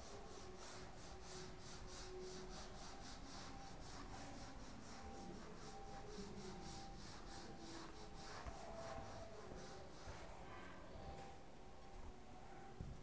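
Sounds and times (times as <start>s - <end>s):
eraser wiping whiteboard: 0.0s - 10.6s.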